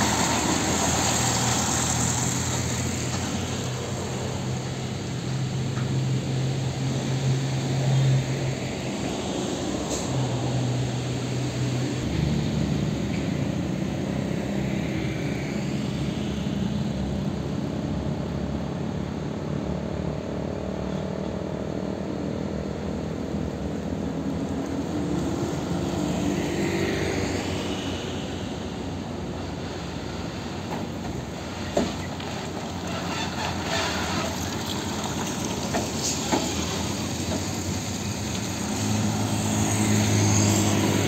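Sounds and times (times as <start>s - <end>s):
diesel truck engines driving past: 0.0s - 41.0s.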